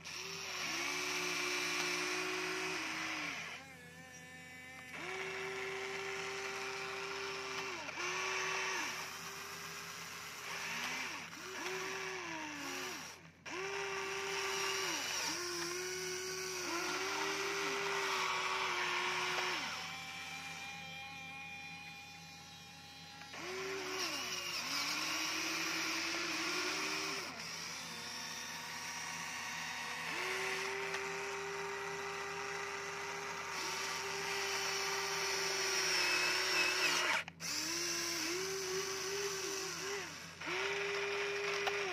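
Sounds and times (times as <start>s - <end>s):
small gear motors whining: 0.0s - 41.9s.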